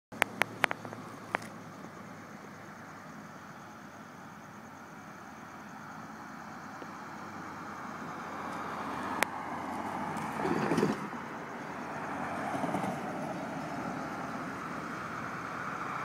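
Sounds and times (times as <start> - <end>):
vehicle rumble: 0.1 - 16.0.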